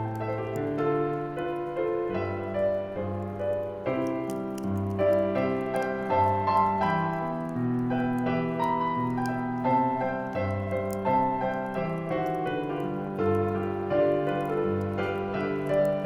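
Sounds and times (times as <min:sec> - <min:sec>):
solo piano playing slowly: 0:00.0 - 0:16.0
wood fire crackling: 0:00.0 - 0:16.0.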